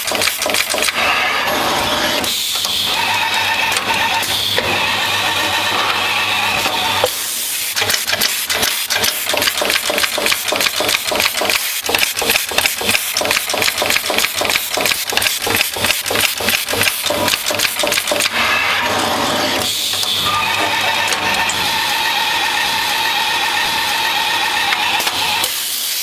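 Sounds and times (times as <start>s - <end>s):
steady machine noise: 0.0s - 25.7s.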